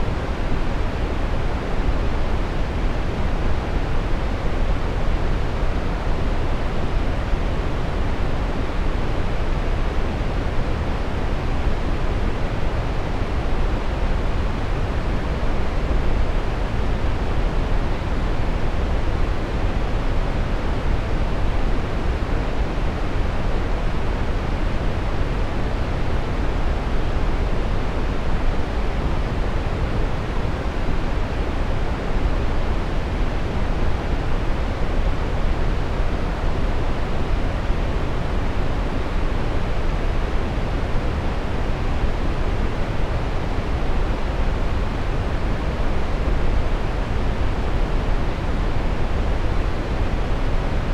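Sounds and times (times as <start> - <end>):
brown noise hiss: 0.0 - 50.9.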